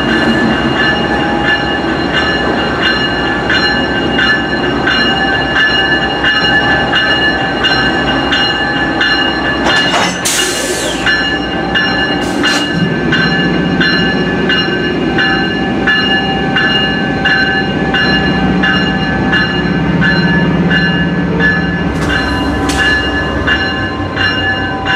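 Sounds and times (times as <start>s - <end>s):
locomotive bell ringing: 0.0s - 24.9s
locomotive running hum: 0.0s - 24.9s.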